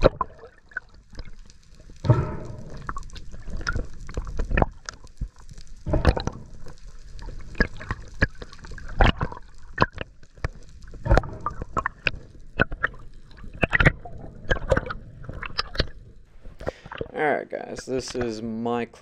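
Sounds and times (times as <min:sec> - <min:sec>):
sharp underwater clicks and pops: 0:00.0 - 0:17.2
water moving past camera: 0:00.0 - 0:17.3.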